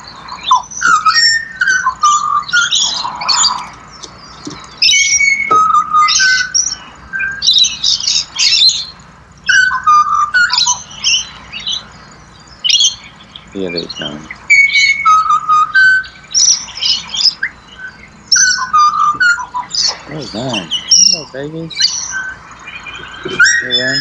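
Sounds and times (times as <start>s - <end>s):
harsh high chattering calls: 0.0s - 24.0s
whistled bird notes: 0.0s - 24.0s.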